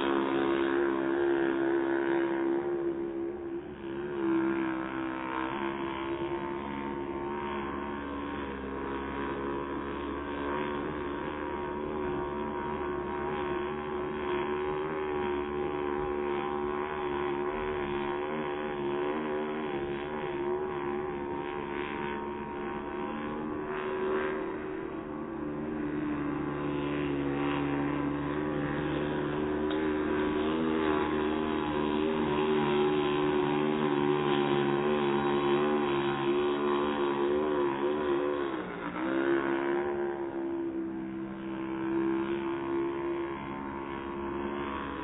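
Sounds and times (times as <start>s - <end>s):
model boat engine droning: 0.0s - 45.0s.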